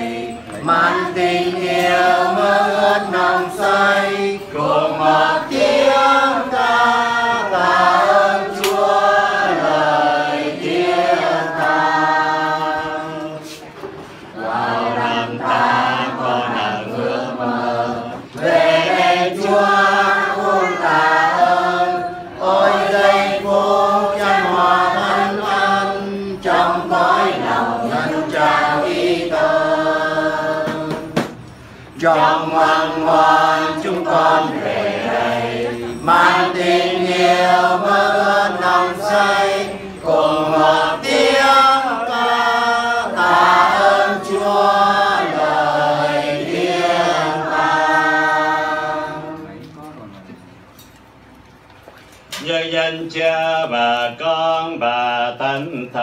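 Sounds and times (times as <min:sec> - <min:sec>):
voices singing a hymn: 0:00.0 - 0:56.0.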